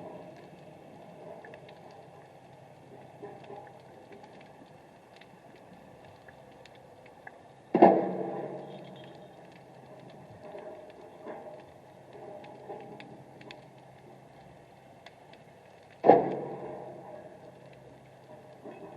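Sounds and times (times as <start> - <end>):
faint clicks underwater: 0.0 - 18.9
underwater murmur of water: 0.0 - 18.9.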